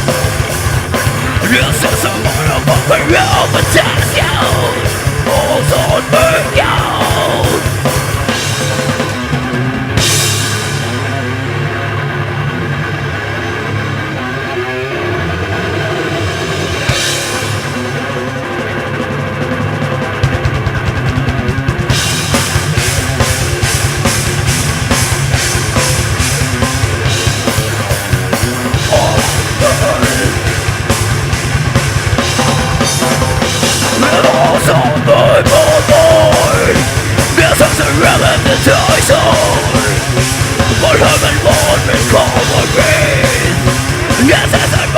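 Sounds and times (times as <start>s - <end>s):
fast drumming on drum kit: 0.0s - 11.3s, 19.5s - 44.9s
distorted guitars and bass: 0.0s - 44.9s
heavy rock band playing: 0.0s - 44.9s.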